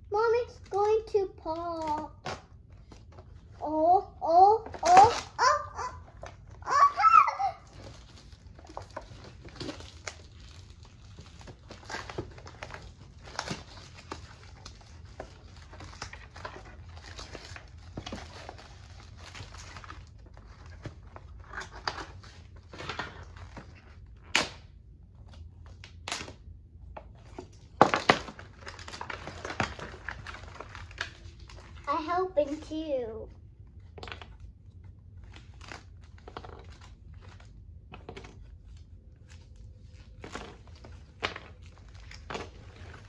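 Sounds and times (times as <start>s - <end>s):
cardboard and paper rustling: 0.2s - 24.3s, 26.9s - 43.0s.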